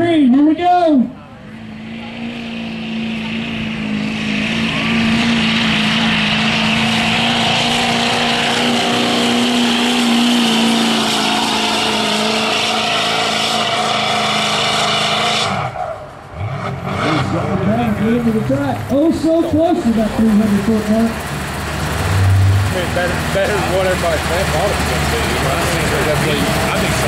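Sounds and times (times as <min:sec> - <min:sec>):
diesel engine at full throttle: 0:00.0 - 0:27.0.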